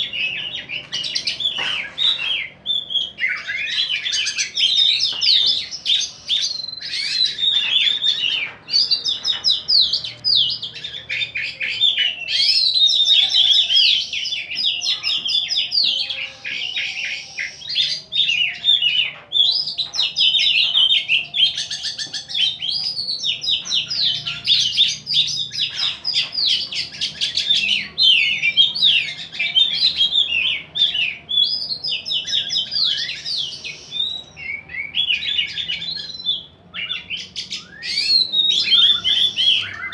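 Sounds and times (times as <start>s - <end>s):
songbirds singing chirps and trills: 0.0s - 39.9s.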